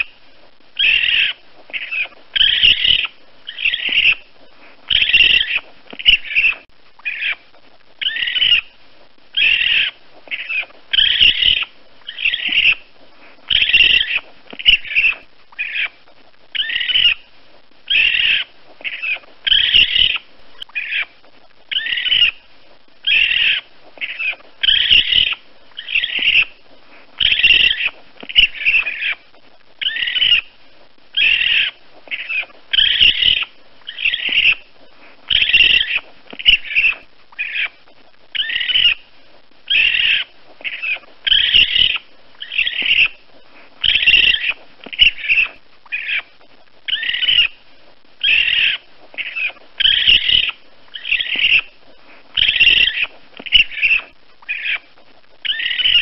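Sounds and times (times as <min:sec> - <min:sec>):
baby raccoon calling: 0:00.0 - 0:00.2, 0:00.8 - 0:56.0.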